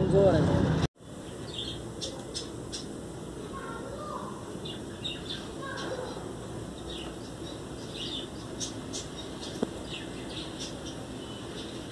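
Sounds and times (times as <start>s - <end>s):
small birds chirping: 1.0s - 11.9s
steady background hiss: 1.0s - 11.9s.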